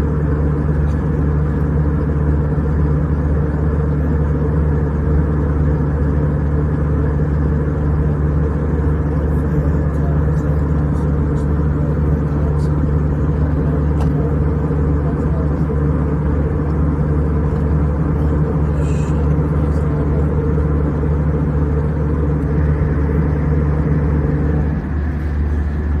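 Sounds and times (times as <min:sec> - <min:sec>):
jet engine drone: 0:00.0 - 0:26.0
low cabin hum: 0:00.0 - 0:26.0.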